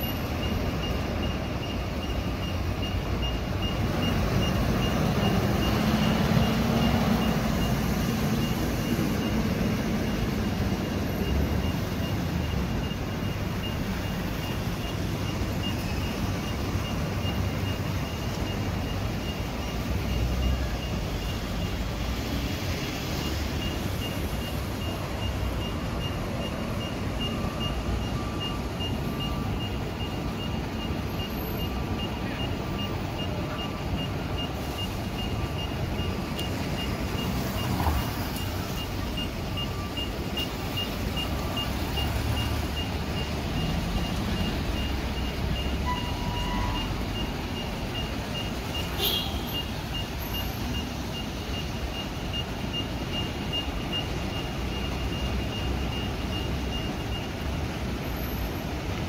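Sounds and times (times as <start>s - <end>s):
fainter lower beep: 0.0s - 58.4s
high electronic beeps: 0.0s - 58.4s
traffic rumble: 0.0s - 59.0s.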